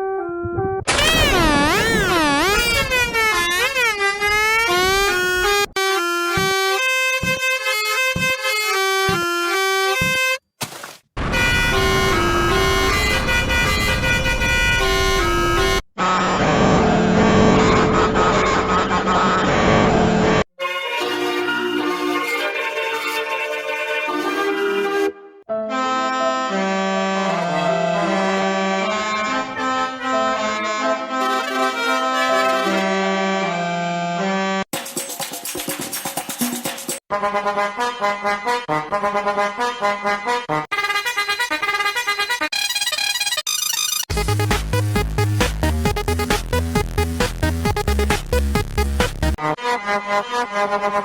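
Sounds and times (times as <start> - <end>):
musical bus horn tune: 0.0 - 10.4, 11.3 - 19.8, 20.6 - 34.7, 37.1 - 51.0.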